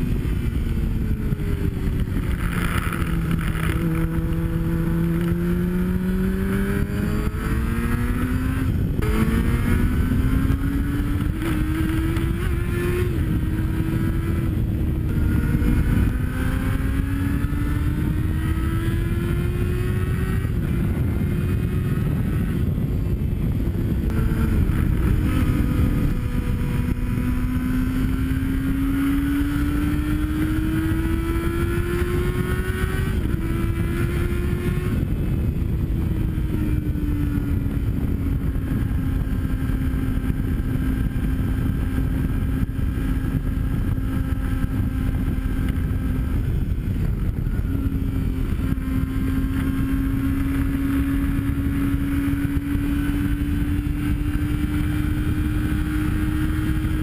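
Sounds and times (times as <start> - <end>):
motorcycle engine accelerating: 0.0 - 57.0
wind rushing over camera: 0.0 - 57.0.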